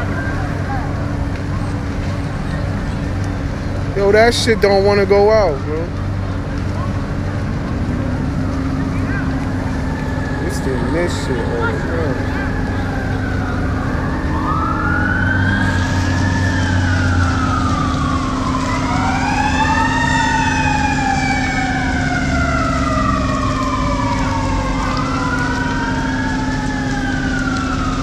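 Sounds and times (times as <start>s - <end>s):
sirens wailing: 0.0s - 28.0s.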